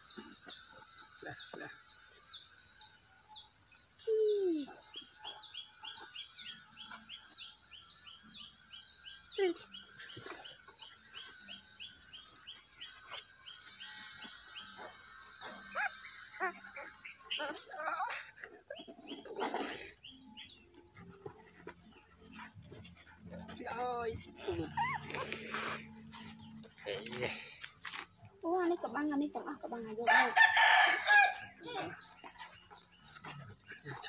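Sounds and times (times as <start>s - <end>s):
small bird chirping: 0.0s - 34.0s.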